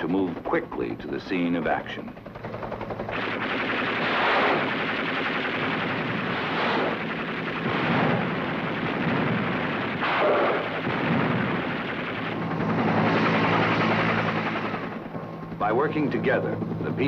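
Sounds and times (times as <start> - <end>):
rapid machine-gun fire: 1.7 - 16.5.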